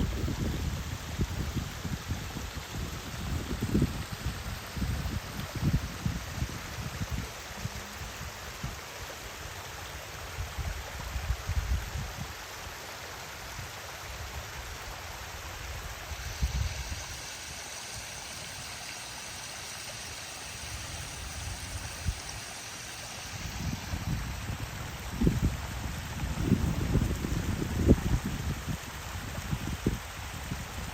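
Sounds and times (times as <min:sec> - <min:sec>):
water rushing over waterfall: 0:00.0 - 0:30.9.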